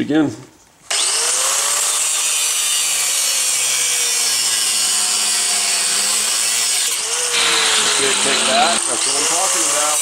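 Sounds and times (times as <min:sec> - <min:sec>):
angle grinder cutting metal: 0:00.9 - 0:10.0.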